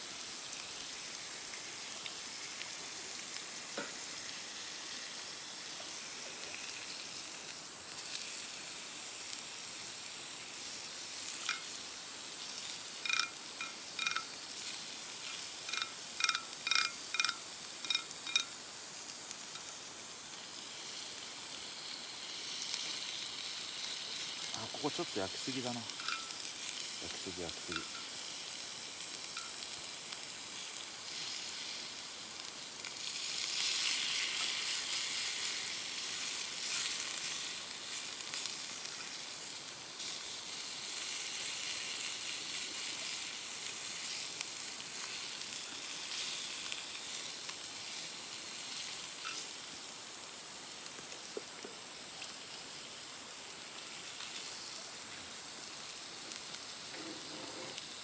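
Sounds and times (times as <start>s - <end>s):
steak sizzling in a skillet: 0.0s - 58.0s.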